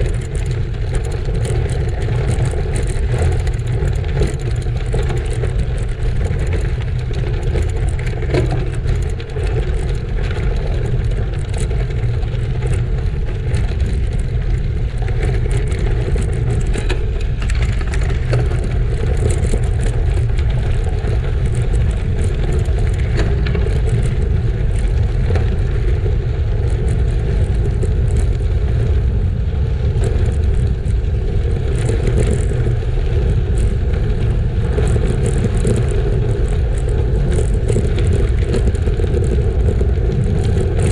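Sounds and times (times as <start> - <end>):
bike rattles and clicks: 0.0 - 40.9
tyres rolling over gravel: 0.0 - 40.9
wind rumble on microphone: 0.0 - 40.9.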